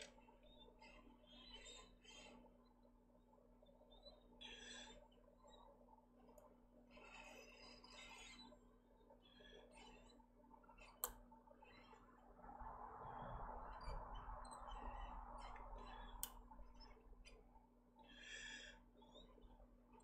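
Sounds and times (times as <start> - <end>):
small tool clicks and squeaks: 0.0 - 2.9, 3.5 - 12.1, 14.7 - 20.0.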